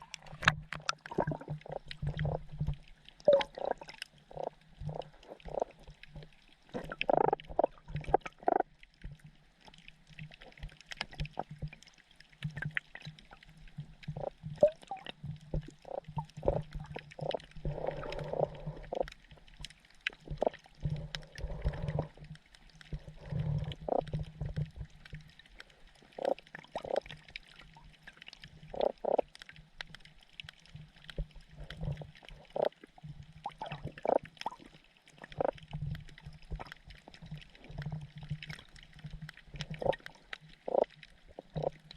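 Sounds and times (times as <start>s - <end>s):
fish pulses underwater: 0.0s - 41.9s.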